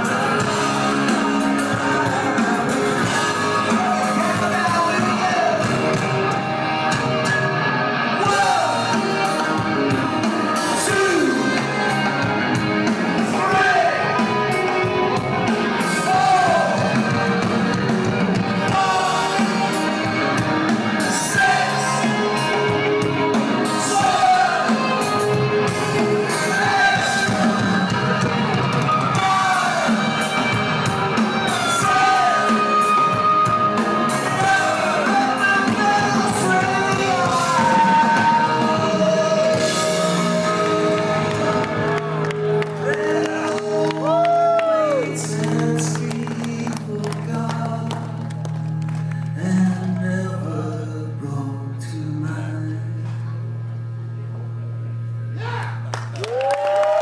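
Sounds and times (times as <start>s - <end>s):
lead vocal singing: 0.0s - 7.3s, 8.1s - 12.2s, 12.9s - 48.3s, 49.3s - 53.4s
live rock band: 0.0s - 57.0s.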